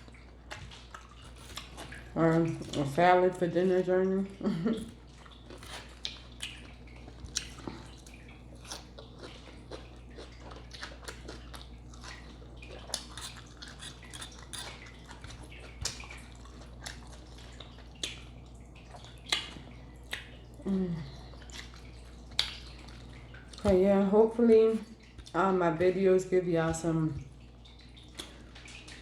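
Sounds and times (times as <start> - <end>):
chewing crunchy salad: 0.0 - 3.0, 4.7 - 26.1, 26.7 - 29.0
steady low hum: 0.0 - 29.0.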